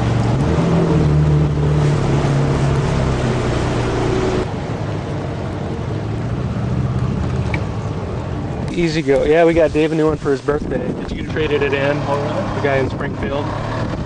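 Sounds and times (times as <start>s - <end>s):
boat engine running: 0.0s - 5.6s, 6.7s - 14.0s
water rushing past boat: 0.0s - 14.0s.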